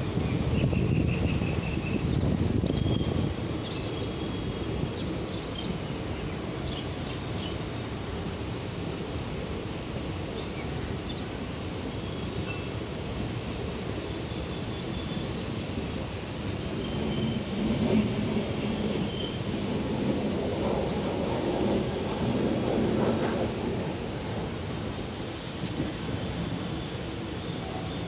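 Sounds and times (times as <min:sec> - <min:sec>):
train low rumble: 0:00.0 - 0:28.0.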